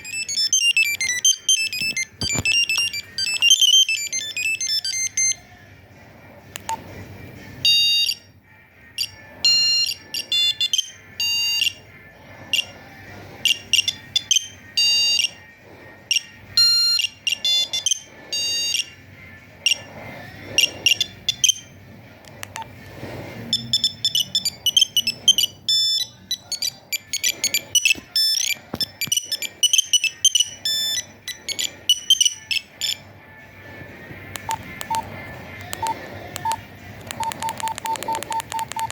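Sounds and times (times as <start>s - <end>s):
monophonic phone ringtone beeps: 0.0s - 5.5s, 7.6s - 19.0s, 19.6s - 19.9s, 20.5s - 21.8s, 23.5s - 33.1s, 34.4s - 35.1s, 35.7s - 38.9s.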